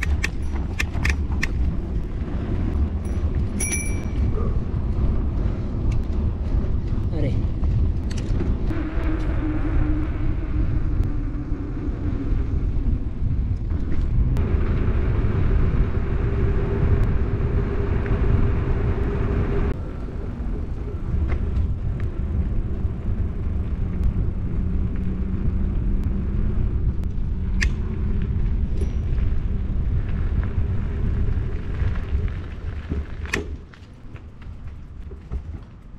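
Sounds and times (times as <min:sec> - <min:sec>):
bike tyres rolling on pavement: 0:00.0 - 0:35.9
wind buffeting microphone: 0:00.0 - 0:35.9.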